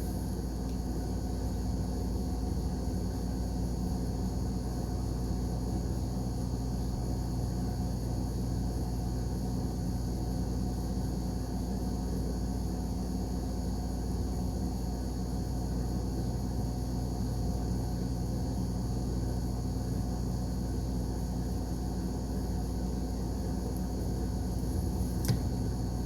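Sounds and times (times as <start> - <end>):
room noise hum and hiss: 0.0 - 26.0.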